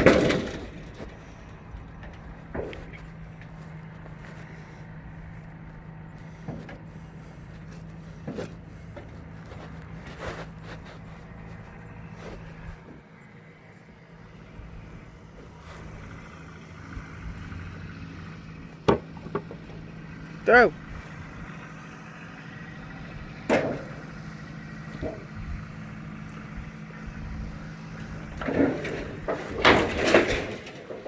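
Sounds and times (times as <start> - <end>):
knocks and clatters: 0.0 - 13.0, 14.3 - 31.0
tractor engine idling: 0.0 - 31.0.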